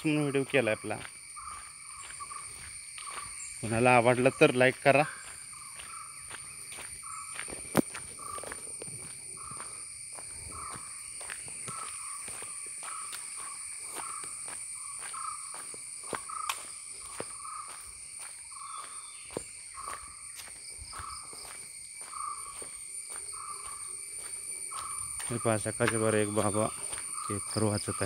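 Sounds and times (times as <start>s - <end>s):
faint footsteps: 0.0s - 3.8s, 4.6s - 27.4s
high-pitched insect drone: 0.0s - 28.0s.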